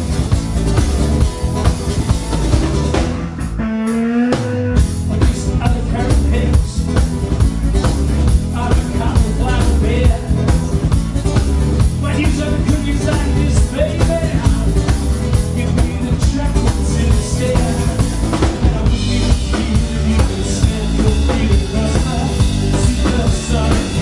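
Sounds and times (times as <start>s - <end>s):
drum kit: 0.0s - 24.0s
electric bass: 0.0s - 24.0s
strummed acoustic guitar: 0.0s - 24.0s.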